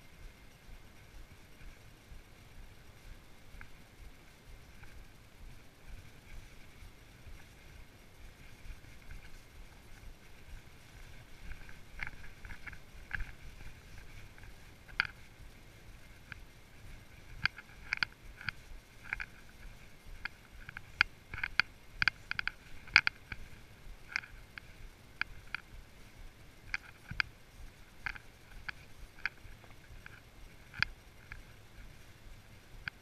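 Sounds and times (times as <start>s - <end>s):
faint low rustle: 0.0s - 33.0s.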